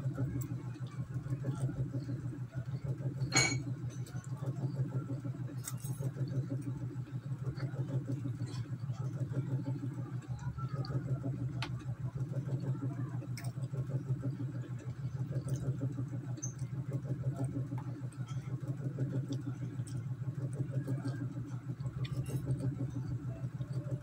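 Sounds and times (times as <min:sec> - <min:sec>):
motor humming: 0:00.0 - 0:24.0
faint clicks and taps: 0:00.1 - 0:02.0, 0:03.9 - 0:24.0.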